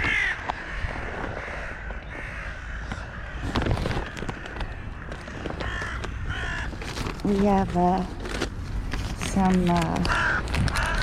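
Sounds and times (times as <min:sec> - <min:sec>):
crows cawing: 0:00.0 - 0:08.1, 0:09.8 - 0:11.0.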